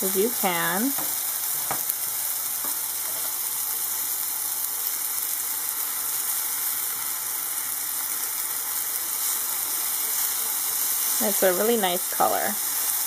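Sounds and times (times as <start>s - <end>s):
banana slices sizzling in oil: 0.0s - 13.0s.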